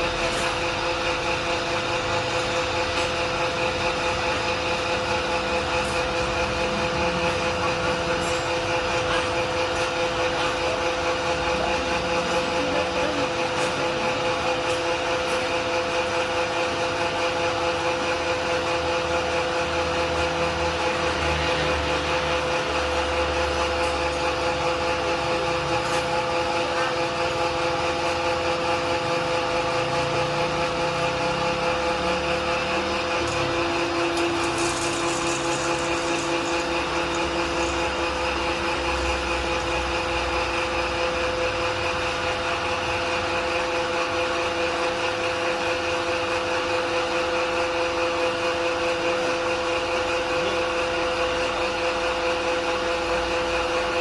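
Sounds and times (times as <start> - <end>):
pellet mill motor humming: 0.0 - 54.0.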